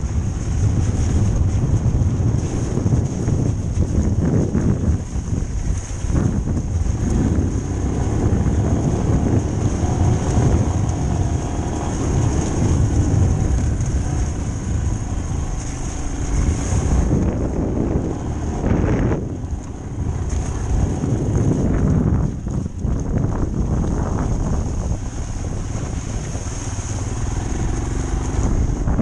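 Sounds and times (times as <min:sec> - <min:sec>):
motorcycle engine rumble: 0:00.0 - 0:29.0
wind buffeting microphone: 0:00.0 - 0:29.0.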